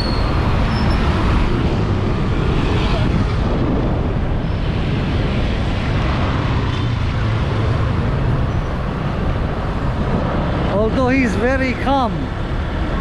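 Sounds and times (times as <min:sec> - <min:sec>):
wind on microphone: 0:00.0 - 0:11.2
road traffic: 0:00.0 - 0:13.0.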